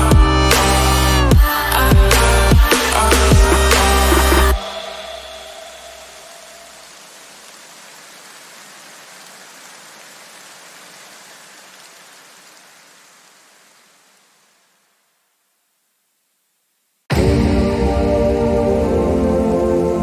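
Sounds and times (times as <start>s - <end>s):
rain-like hiss: 2.8s - 20.0s.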